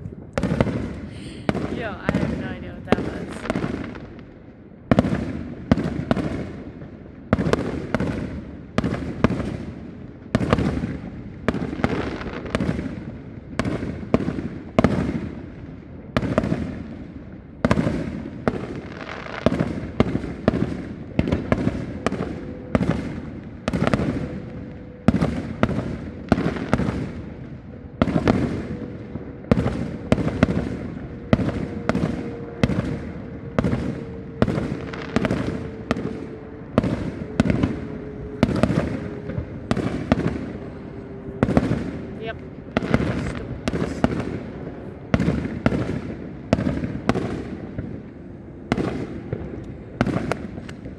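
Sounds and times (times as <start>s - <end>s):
fireworks booming bursts: 0.0s - 50.9s.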